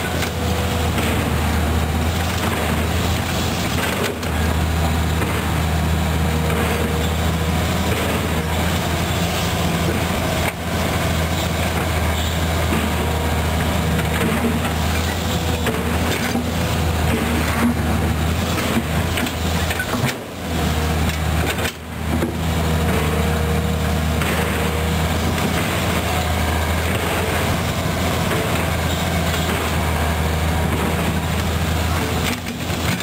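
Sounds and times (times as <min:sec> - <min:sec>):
drilling rig diesel engine: 0:00.0 - 0:33.0
excavator diesel engine droning: 0:00.0 - 0:33.0.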